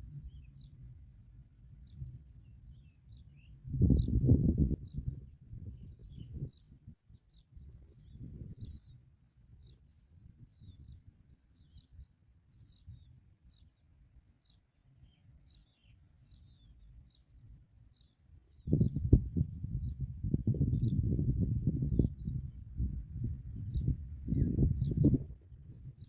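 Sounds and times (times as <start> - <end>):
small birds chirping: 0.1 - 0.9, 1.5 - 26.0.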